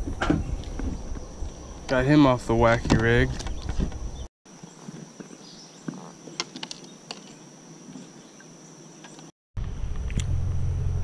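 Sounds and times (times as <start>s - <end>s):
insects trilling: 0.0s - 9.3s.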